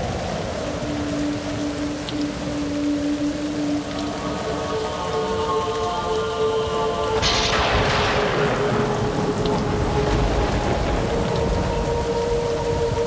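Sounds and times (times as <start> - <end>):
musical drone: 0.0 - 13.0
steady rain: 0.0 - 13.0
thunder rumbling: 0.0 - 13.0.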